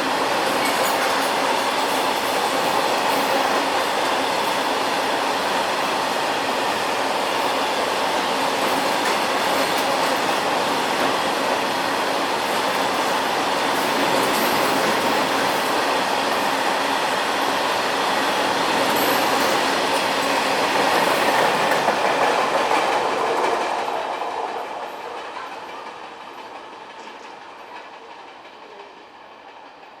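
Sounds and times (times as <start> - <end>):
train wheel and rail noise: 0.0 - 30.0.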